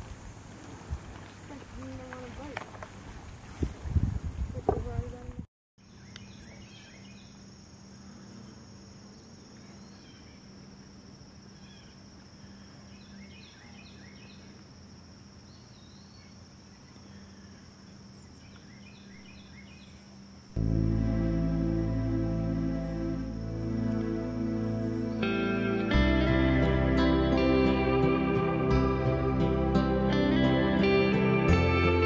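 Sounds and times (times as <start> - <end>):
insect chirps: 0.0 - 28.6
insect chorus drone: 0.0 - 32.0.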